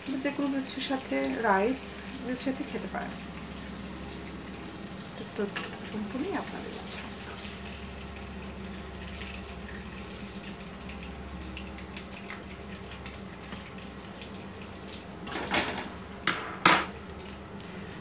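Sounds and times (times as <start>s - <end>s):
meat sizzling in oil: 0.0s - 17.5s.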